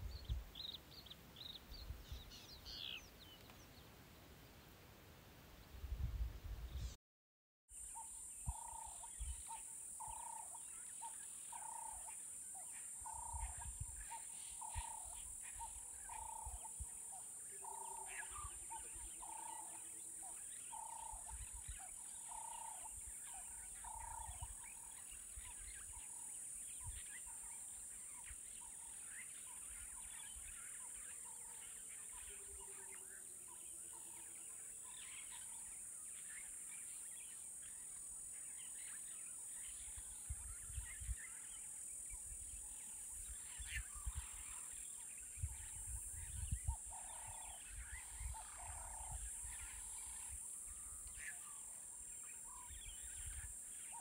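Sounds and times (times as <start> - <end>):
high insect hiss: 7.8 - 54.0.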